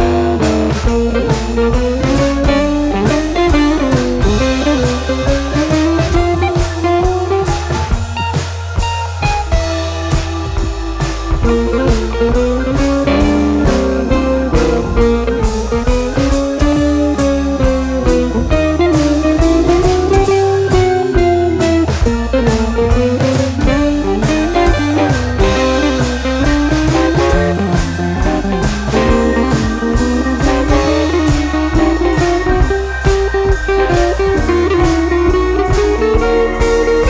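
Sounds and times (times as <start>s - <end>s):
drum kit beat: 0.0s - 37.0s
guitar music: 0.0s - 37.0s.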